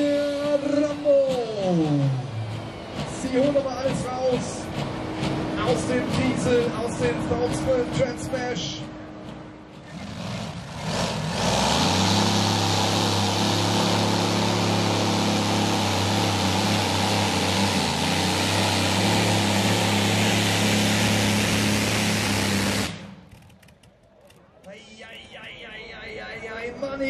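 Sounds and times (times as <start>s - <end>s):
tractor diesel engine at full power: 0.0s - 26.9s.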